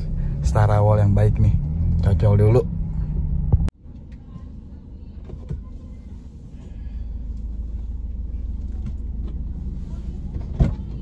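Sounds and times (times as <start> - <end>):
car idling: 0.0 - 11.0.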